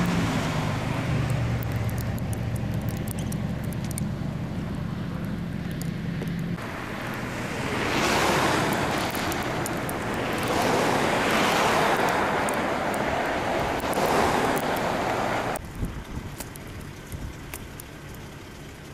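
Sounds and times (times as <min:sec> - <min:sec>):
tyre hiss of passing traffic: 0:00.0 - 0:18.9.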